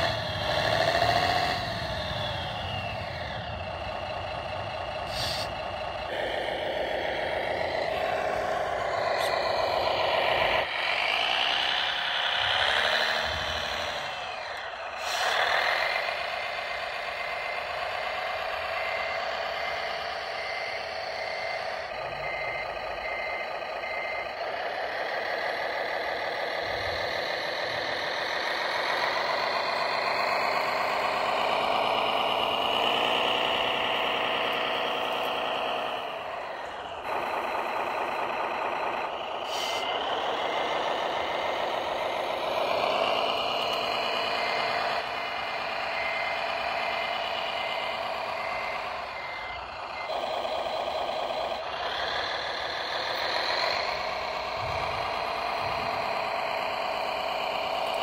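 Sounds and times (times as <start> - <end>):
model tractor motor whine: 0.0 - 58.0.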